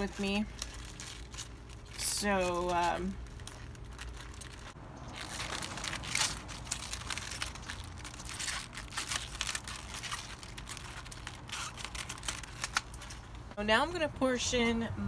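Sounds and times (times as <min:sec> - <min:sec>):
kale leaves rustling and crinkling: 0:00.0 - 0:13.6.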